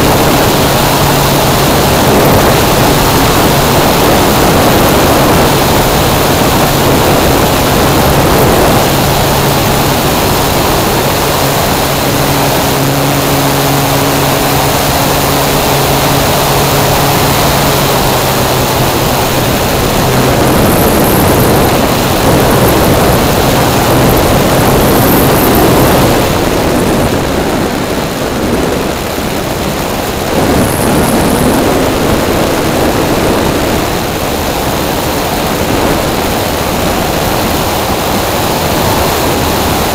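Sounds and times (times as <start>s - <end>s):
electric motor and propeller hum: 0.0s - 39.9s
wind rushing over airframe: 0.0s - 39.9s.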